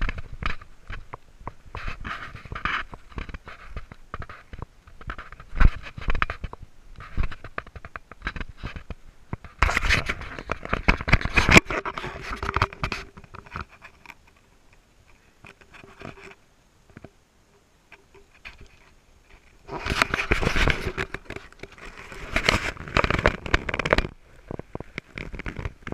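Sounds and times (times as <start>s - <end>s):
clothing rubbing on microphone: 0.0s - 14.4s, 15.0s - 16.4s, 17.9s - 25.9s.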